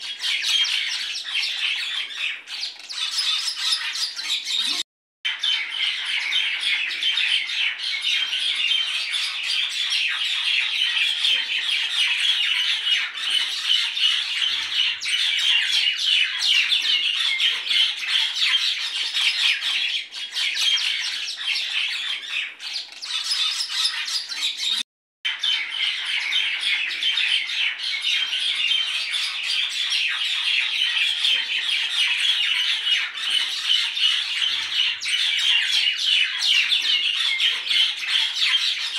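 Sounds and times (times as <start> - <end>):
birds chattering and squawking: 0.0 - 38.9.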